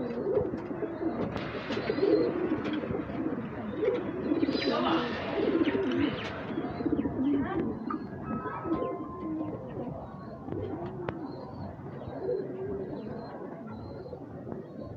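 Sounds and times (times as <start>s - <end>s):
pigeons cooing: 0.0s - 14.9s.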